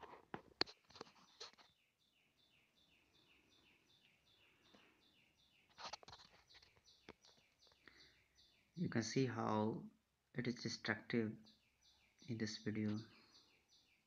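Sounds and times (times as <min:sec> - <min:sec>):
bird chirping: 0:00.0 - 0:14.0.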